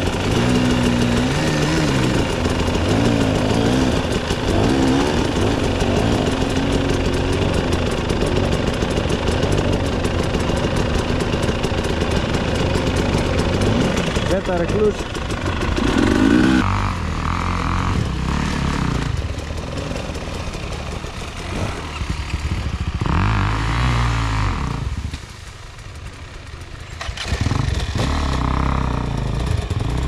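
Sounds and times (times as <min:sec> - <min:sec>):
dirt bike engines revving: 0:00.0 - 0:25.3, 0:26.5 - 0:30.0.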